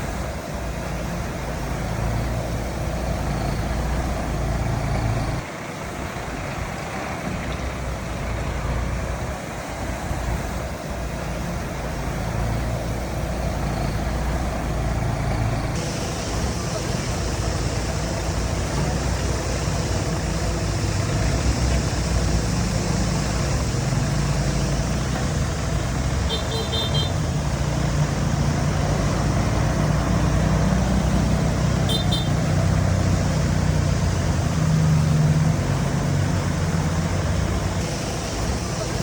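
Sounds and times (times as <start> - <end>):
heavy machinery diesel engine drone: 0.0 - 39.0.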